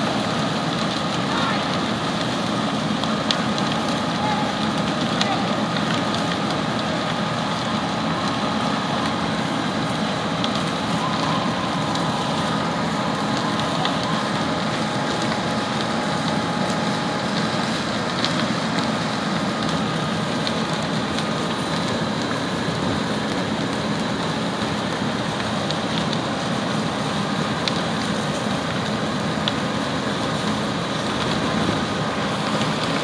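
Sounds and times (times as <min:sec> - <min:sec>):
building fire rushing: 0:00.0 - 0:33.0
fire crackling and popping: 0:00.0 - 0:33.0
fire engines running: 0:00.0 - 0:33.0.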